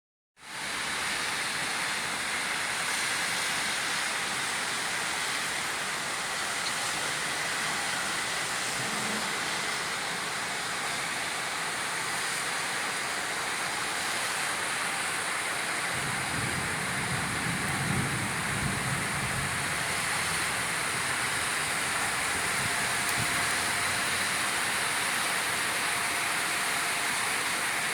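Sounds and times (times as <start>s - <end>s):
steady rainfall: 0.4s - 27.9s.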